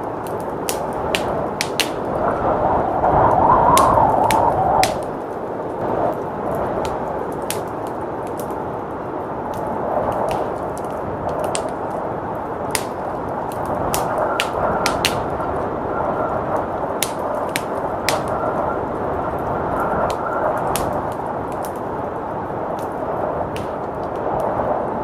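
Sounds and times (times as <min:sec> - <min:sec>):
blizzard wind: 0:00.0 - 0:25.0
wood fire crackling and popping: 0:00.0 - 0:25.0.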